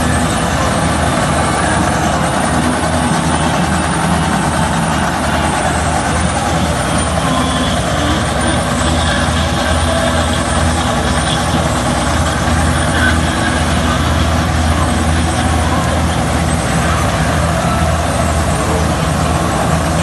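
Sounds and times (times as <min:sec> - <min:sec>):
combine harvester engine humming: 0:00.0 - 0:20.0.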